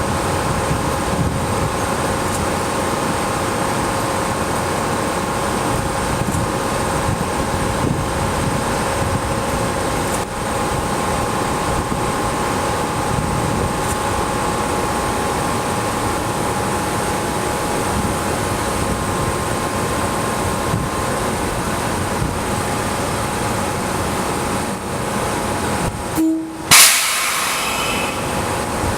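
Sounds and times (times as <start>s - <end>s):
train equipment hum and hiss: 0.0s - 28.9s.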